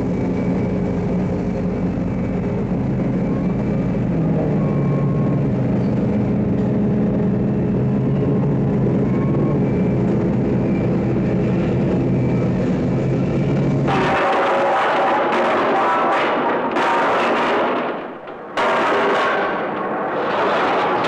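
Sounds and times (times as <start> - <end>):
heavy industrial plant drone: 0.0 - 21.0.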